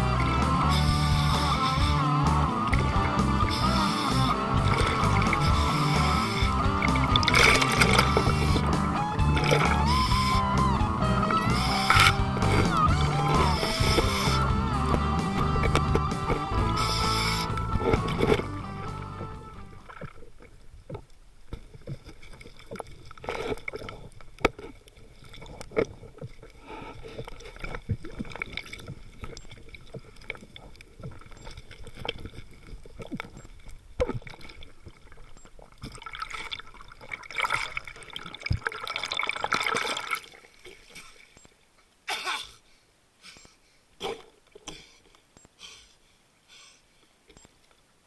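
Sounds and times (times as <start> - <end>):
underwater bubbling and gurgling: 0.0 - 41.8.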